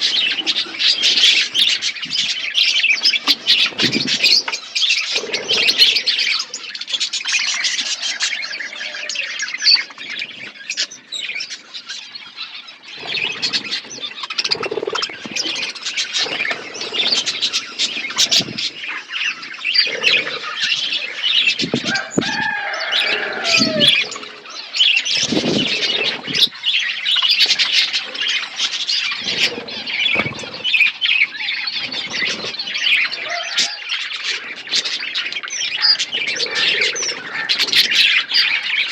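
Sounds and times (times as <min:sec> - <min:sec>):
wing fluttering: 0:00.0 - 0:06.5, 0:13.0 - 0:26.6, 0:27.2 - 0:38.5
loud bird call: 0:00.0 - 0:38.9
small birds chirping: 0:00.0 - 0:38.9.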